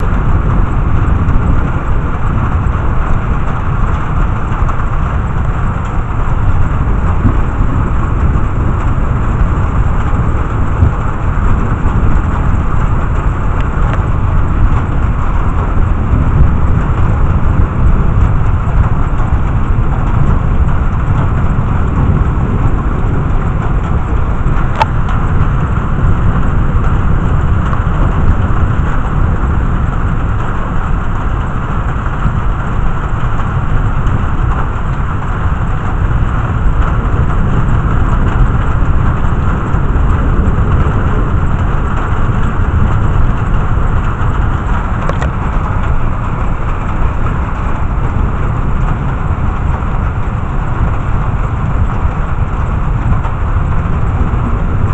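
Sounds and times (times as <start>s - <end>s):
heavy rain falling: 0.0s - 54.9s
low rumble: 0.0s - 54.9s.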